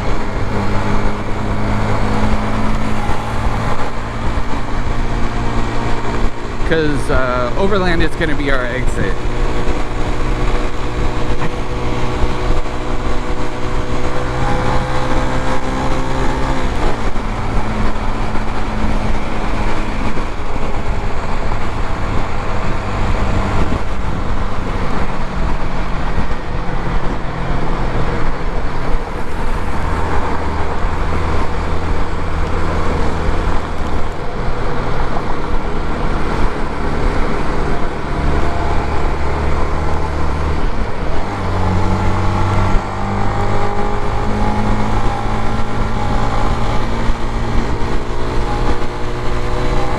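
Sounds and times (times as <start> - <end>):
traffic rush: 0.0 - 49.9
wind and road noise: 0.0 - 49.9.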